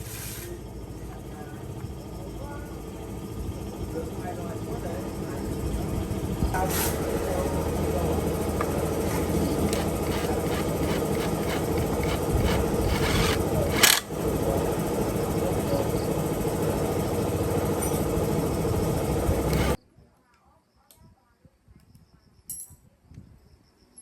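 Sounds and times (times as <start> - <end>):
chainsaw engine running: 0.0 - 19.8.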